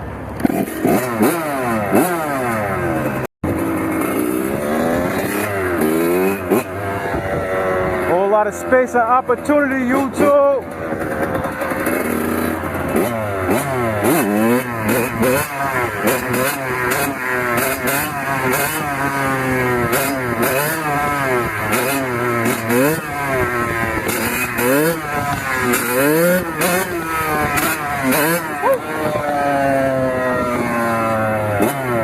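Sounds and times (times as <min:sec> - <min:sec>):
dirt bike engine revving: 0:00.4 - 0:32.0.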